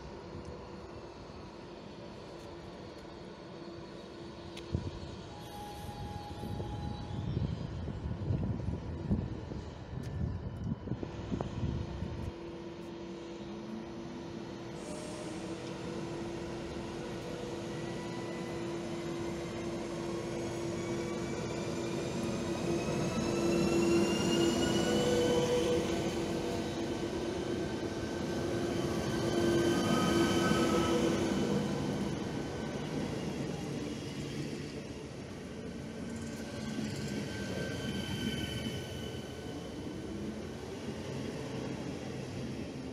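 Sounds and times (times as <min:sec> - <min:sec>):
train electrical hum and whine: 0:00.0 - 0:42.9.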